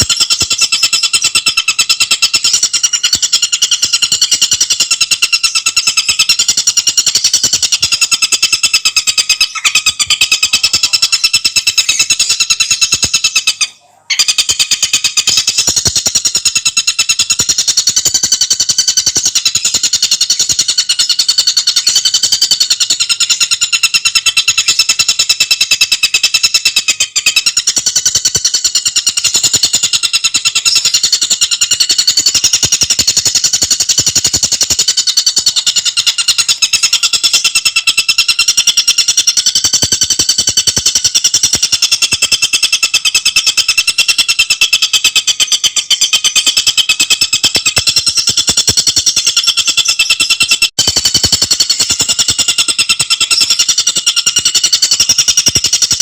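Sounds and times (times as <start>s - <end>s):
songbird chattering trill: 0.0s - 56.0s.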